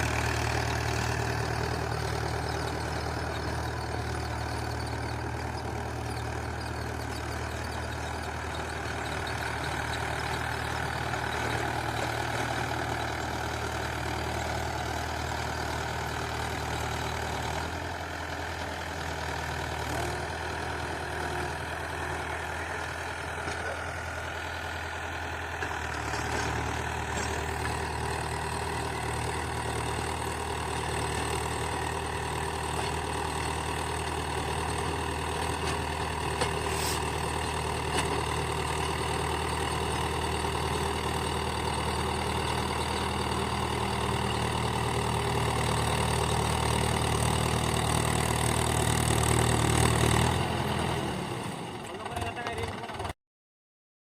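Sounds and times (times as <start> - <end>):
tractor diesel engine running: 0.0 - 53.1.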